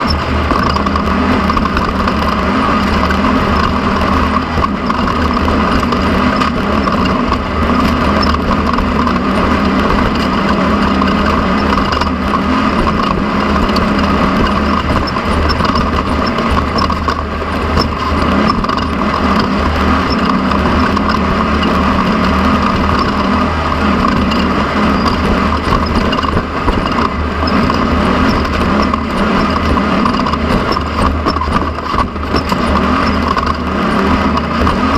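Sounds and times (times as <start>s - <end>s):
race car engine drone: 0.0s - 34.9s
road and wind noise: 0.0s - 34.9s.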